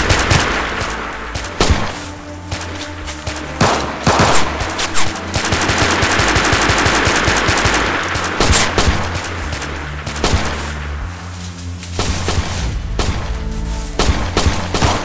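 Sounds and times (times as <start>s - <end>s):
gunshots: 0.0s - 15.0s
low steady drone: 0.0s - 15.0s.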